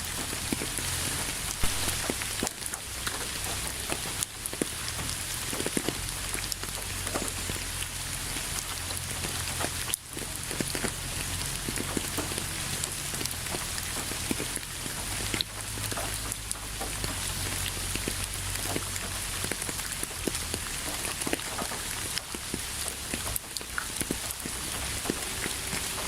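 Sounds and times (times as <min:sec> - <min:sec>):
rain hissing: 0:00.0 - 0:26.0
raindrops ticking on hard surface: 0:00.0 - 0:26.0.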